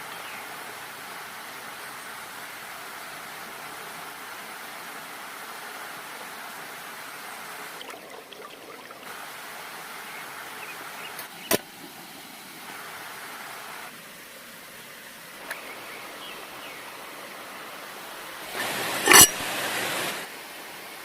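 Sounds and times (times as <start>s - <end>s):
stream water flowing: 0.0s - 21.0s.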